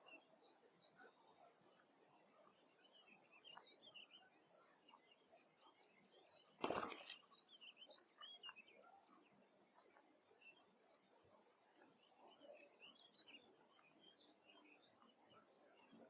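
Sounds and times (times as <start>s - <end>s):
faint songbirds chirping: 0.0s - 9.4s, 11.8s - 16.0s.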